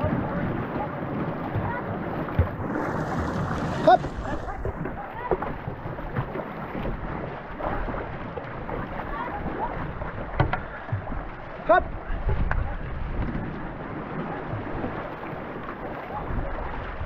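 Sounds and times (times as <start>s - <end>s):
paddles in water: 0.0s - 17.0s
water splashing along hull: 0.0s - 17.0s
wind buffeting microphone: 0.0s - 17.0s.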